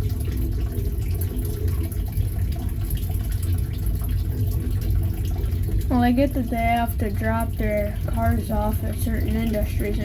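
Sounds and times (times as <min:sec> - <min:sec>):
water trickling through filter: 0:00.0 - 0:10.0.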